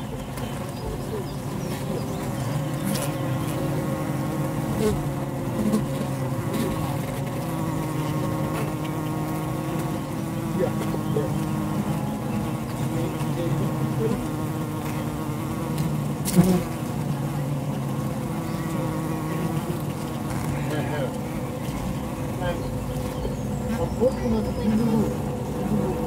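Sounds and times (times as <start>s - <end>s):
bees humming in hive: 0.0s - 26.0s.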